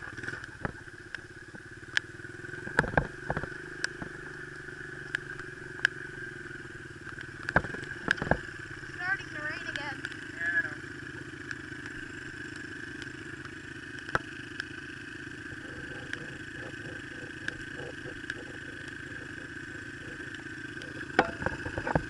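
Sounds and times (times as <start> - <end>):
dirt bike engine idling: 0.0 - 22.0
light ticks: 0.2 - 6.0, 7.0 - 10.4, 11.0 - 14.8, 15.6 - 22.0.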